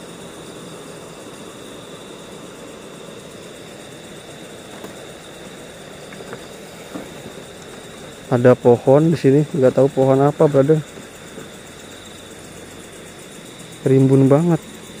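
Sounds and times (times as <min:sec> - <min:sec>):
thin high whine: 0:00.0 - 0:15.0.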